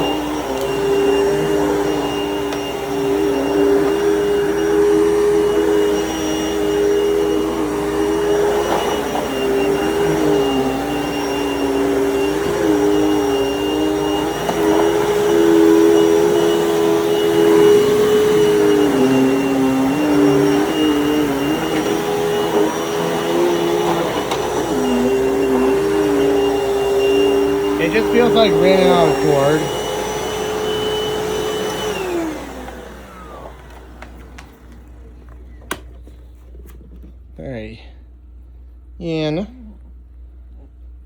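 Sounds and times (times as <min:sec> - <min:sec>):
vacuum cleaner running: 0:00.0 - 0:37.6.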